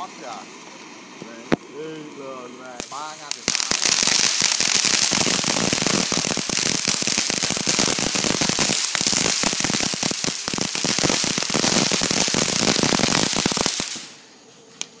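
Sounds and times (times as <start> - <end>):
firework crackling and popping: 0.0 - 15.0.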